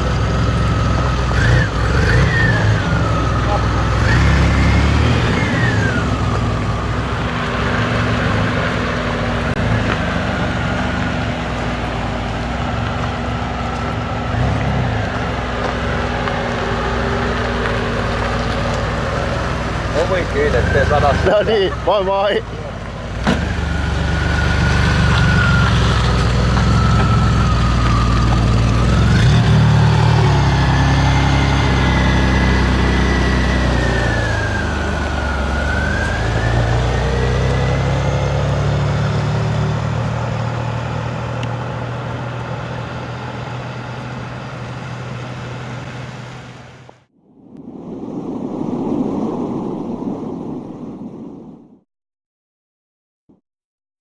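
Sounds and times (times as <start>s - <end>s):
car engine accelerating: 0.0s - 47.2s
high engine whine: 0.0s - 51.8s.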